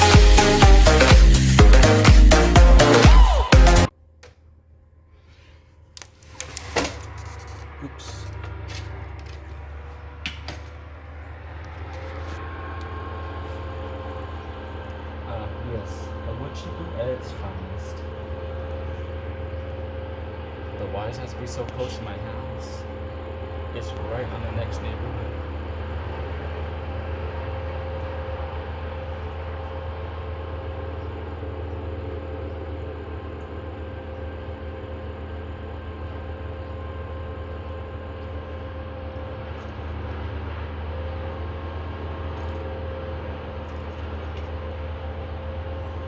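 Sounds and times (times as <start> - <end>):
wood chipper drone: 0.0 - 4.4, 5.1 - 46.0
thin whining tone: 5.2 - 46.0.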